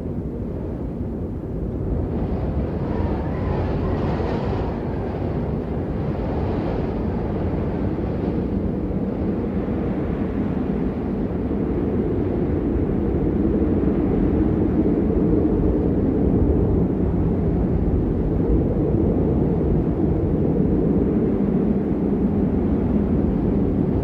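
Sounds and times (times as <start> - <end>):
low storm rumble: 0.0 - 24.0.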